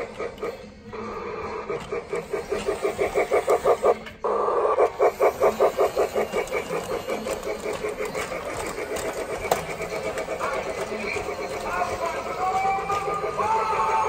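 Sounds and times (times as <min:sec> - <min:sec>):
toy steam locomotive chuffing: 0:00.0 - 0:14.0.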